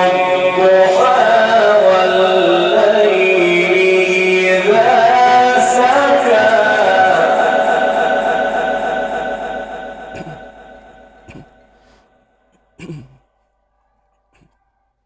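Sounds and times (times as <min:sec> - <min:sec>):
man reciting melodically: 0:00.0 - 0:13.2.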